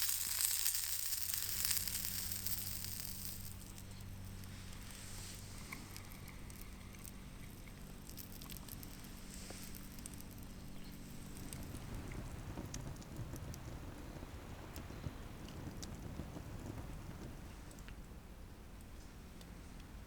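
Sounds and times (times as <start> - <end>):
low rumbling noise: 0.0 - 18.8
campfire crackling: 0.0 - 19.0.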